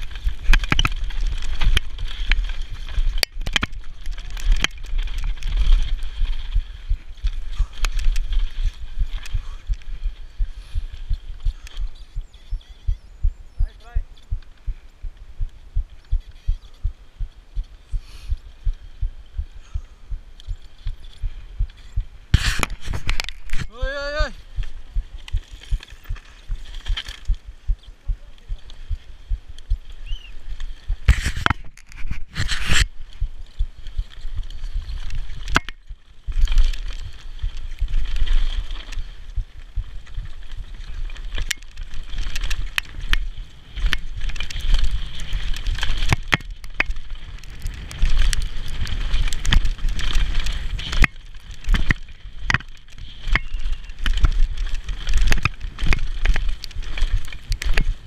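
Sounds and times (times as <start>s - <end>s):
bike rattling over rocky trail: 0.0s - 14.6s, 18.5s - 58.0s
wind buffeting microphone: 0.0s - 58.0s.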